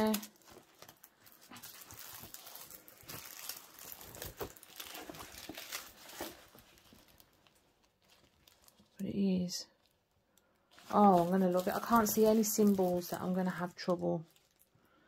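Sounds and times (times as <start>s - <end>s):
plastic film crinkling: 0.0s - 15.0s.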